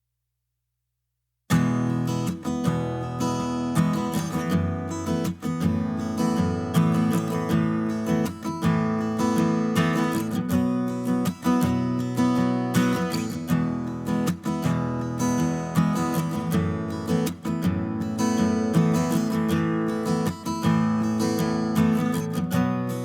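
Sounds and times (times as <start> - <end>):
acoustic guitar strumming: 1.5 - 23.0.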